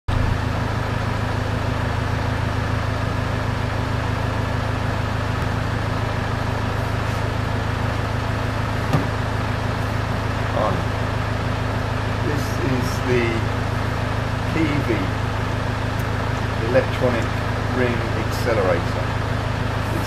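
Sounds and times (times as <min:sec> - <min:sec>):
car engine idling: 0:00.1 - 0:20.0.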